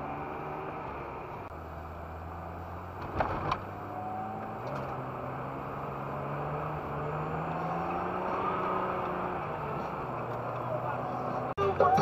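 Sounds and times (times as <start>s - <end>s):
car engine pulling in gear: 0.0s - 12.0s.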